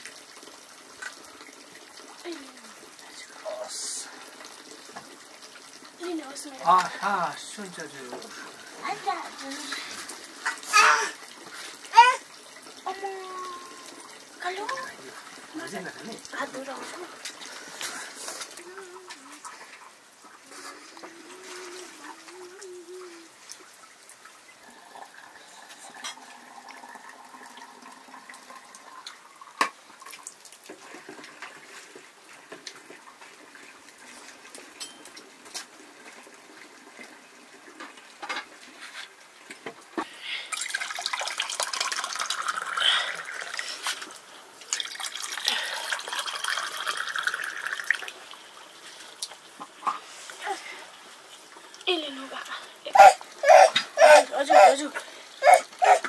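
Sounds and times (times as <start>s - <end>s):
water pouring and splashing: 0.0s - 56.0s.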